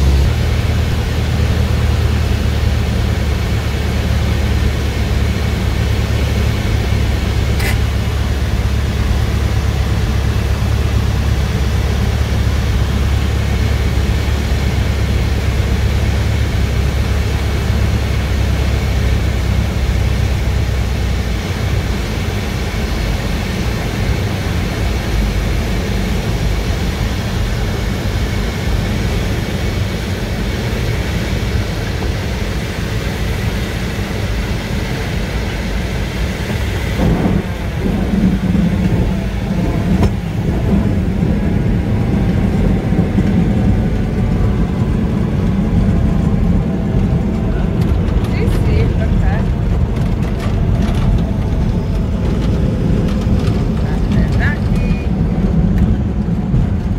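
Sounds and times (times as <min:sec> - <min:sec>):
aircraft engine and propeller drone: 0:00.0 - 0:56.9
rushing air: 0:00.0 - 0:56.9.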